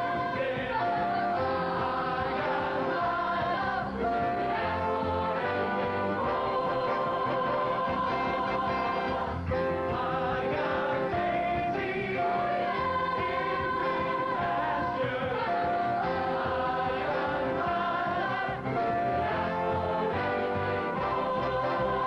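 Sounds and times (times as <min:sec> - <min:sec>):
chorus singing show tune: 0:00.0 - 0:22.0
instrumental backing: 0:00.0 - 0:22.0.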